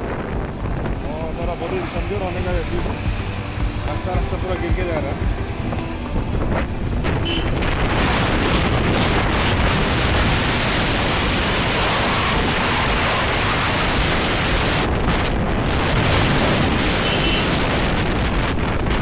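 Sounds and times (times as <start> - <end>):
wind roaring over microphone: 0.0 - 19.0.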